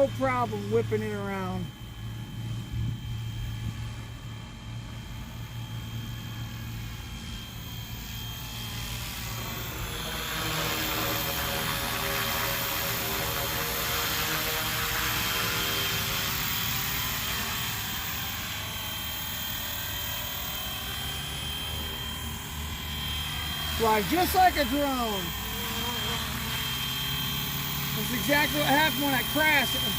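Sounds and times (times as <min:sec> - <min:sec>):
helicopter rotor hum and motor whine: 0:00.0 - 0:29.9.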